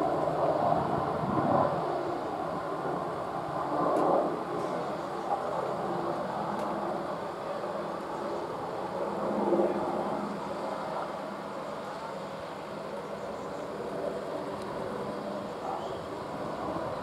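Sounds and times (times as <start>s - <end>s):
helicopter rotor and engine drone: 0.0s - 17.0s.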